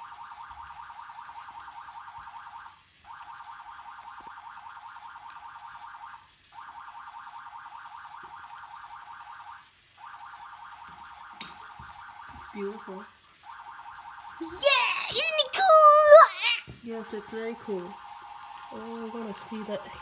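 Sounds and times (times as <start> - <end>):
electronic siren warbling: 0.0 - 15.2, 17.6 - 20.0.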